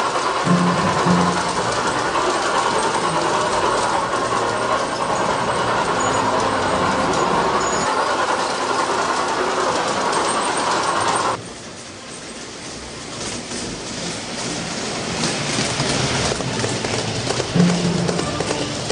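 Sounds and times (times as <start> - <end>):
model train wheels clattering: 0.0 - 18.9.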